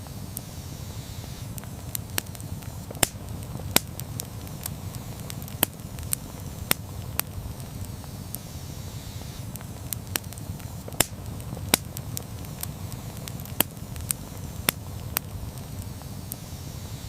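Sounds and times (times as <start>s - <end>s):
burning wood popping and crackling: 0.0s - 17.0s
flames rumbling: 0.0s - 17.0s.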